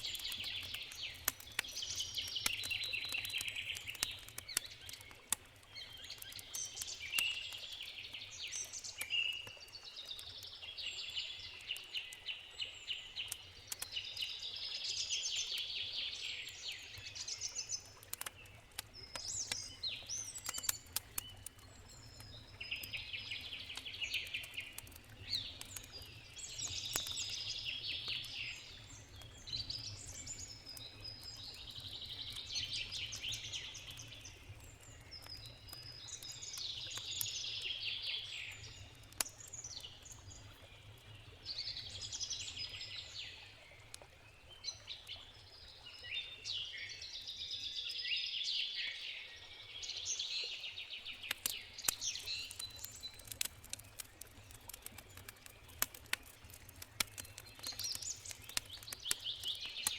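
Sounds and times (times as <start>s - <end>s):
campfire crackles: 0.0s - 59.9s.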